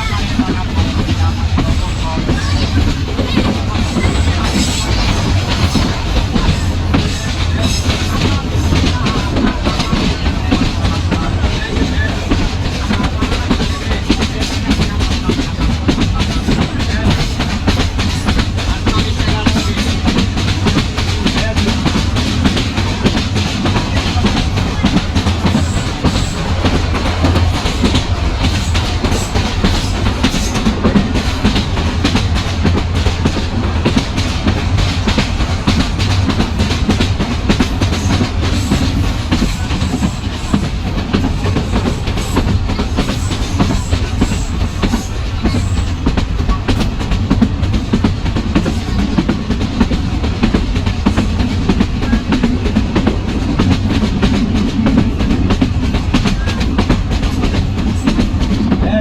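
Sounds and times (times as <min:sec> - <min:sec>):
passenger train rumbling on rails: 0:00.0 - 0:59.0.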